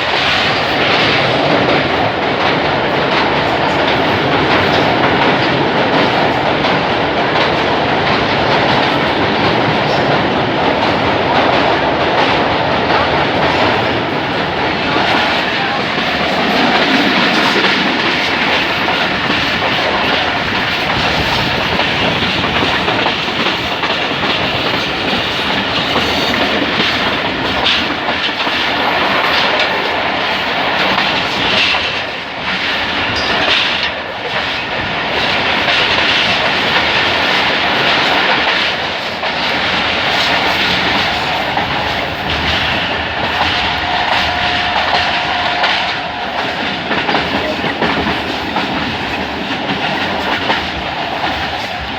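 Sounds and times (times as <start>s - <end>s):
train wheels clattering over rail joints: 0.0s - 51.9s.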